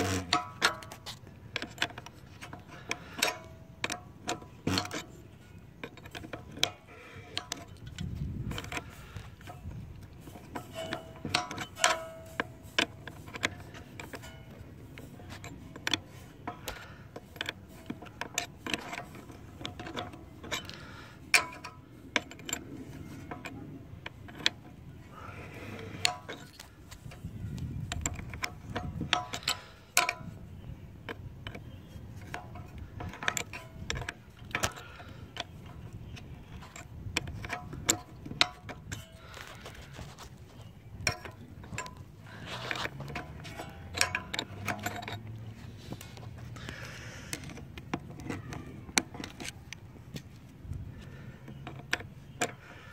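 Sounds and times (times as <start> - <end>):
wrench tapping on metal nut: 0.0 - 24.7, 25.8 - 40.2, 41.0 - 50.3.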